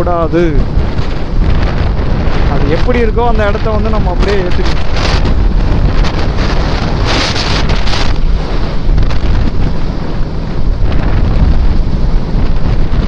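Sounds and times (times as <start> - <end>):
motorcycle engine and road rumble: 0.0 - 13.0
wind rushing over microphone: 0.0 - 13.0.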